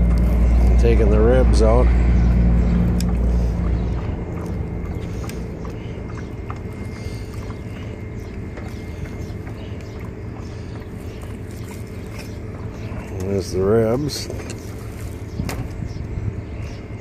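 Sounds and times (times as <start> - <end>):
low rumble: 0.0 - 13.7
engine hum: 0.0 - 17.0.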